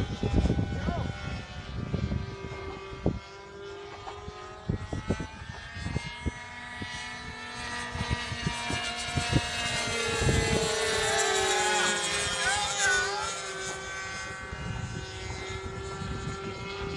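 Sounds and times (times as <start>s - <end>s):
model plane engines droning: 0.0s - 16.9s.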